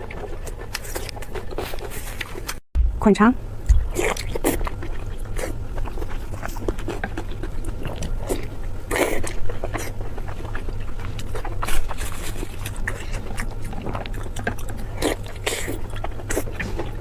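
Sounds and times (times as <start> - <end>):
person chewing: 0.0 - 2.6, 3.6 - 17.0
low hum: 0.0 - 17.0.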